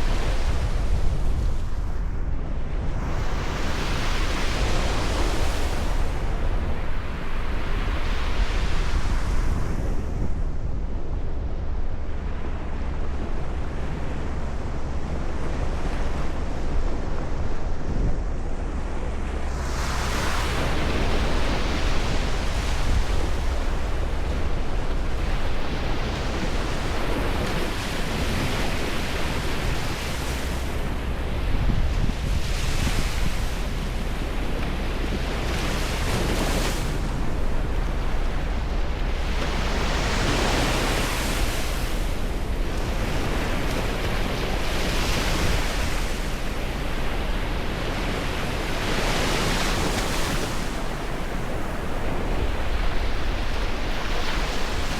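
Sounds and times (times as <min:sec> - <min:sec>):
ocean waves breaking: 0:00.0 - 0:54.9
wind rumble on microphone: 0:00.0 - 0:54.9.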